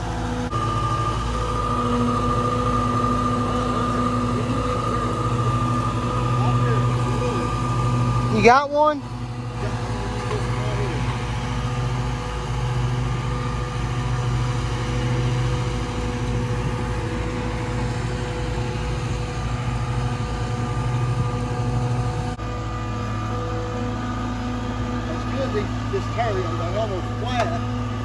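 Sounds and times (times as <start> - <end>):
engine droning steadily: 0.0 - 28.0.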